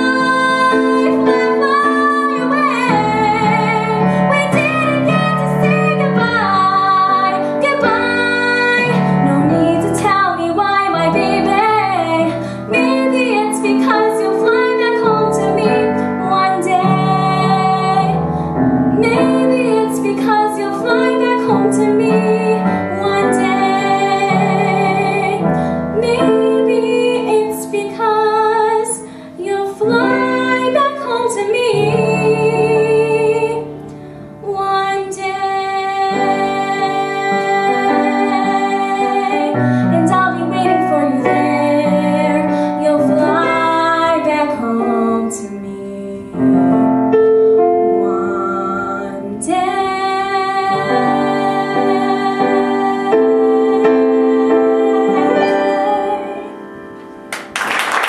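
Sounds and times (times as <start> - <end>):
young woman singing: 0.0 - 56.9
piano accompaniment: 0.0 - 58.0.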